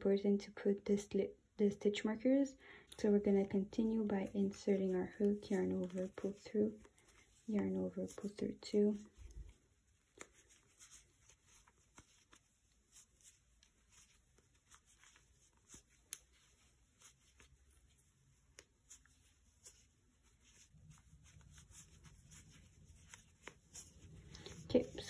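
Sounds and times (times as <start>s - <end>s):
yarn rustling: 3.4s - 25.0s.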